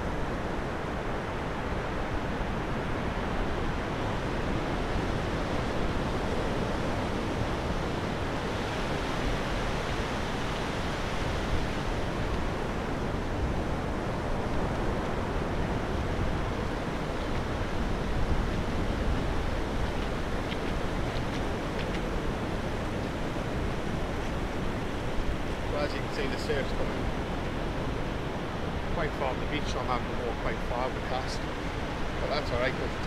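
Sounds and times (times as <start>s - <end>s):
wind on microphone: 0.0s - 33.0s.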